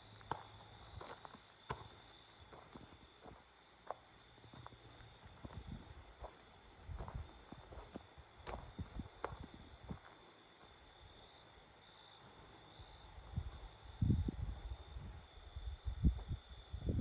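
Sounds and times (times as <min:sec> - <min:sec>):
night insects chirping: 0:00.0 - 0:17.0.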